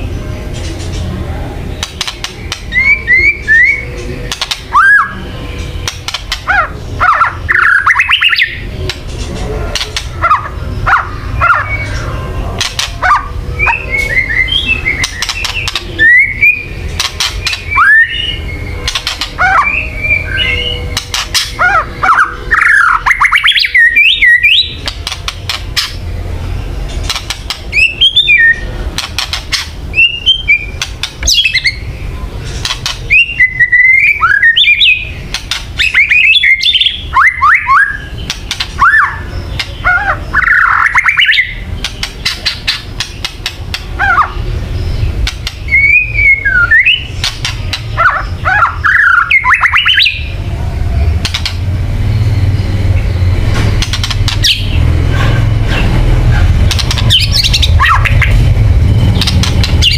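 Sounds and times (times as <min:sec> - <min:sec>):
steady low hum: 0:00.0 - 0:49.5, 0:50.1 - 0:59.9
bird rattling calls and chirps: 0:01.8 - 0:26.1, 0:26.8 - 0:50.4, 0:51.1 - 0:51.7, 0:53.0 - 0:59.9.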